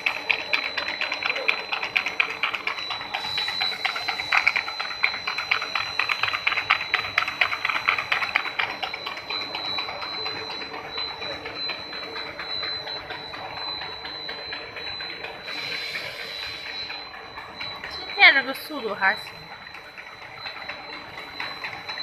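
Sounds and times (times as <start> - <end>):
steady high machine whine: 0.0 - 22.0.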